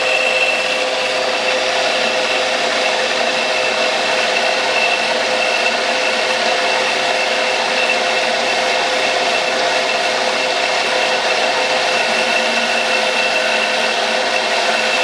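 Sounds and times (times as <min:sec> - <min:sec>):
metal lathe whining: 0:00.0 - 0:15.0.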